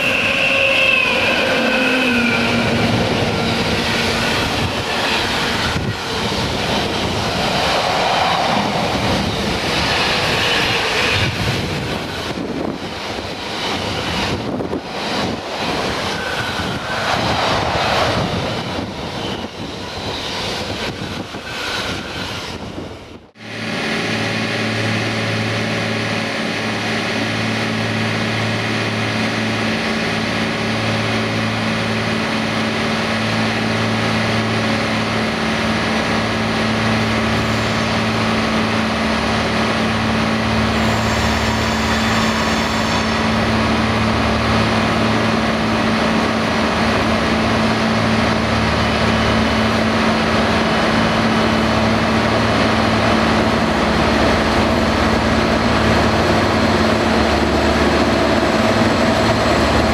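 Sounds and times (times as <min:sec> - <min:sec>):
train hum and rumble: 0:00.0 - 0:59.9.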